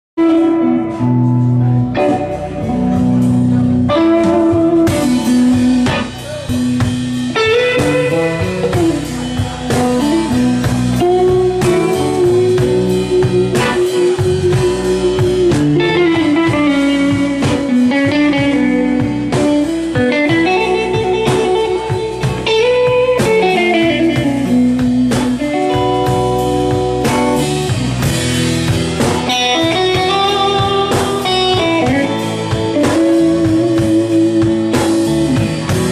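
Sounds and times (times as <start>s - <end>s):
drums: 0.2s - 35.9s
electric guitar lead: 0.2s - 35.9s.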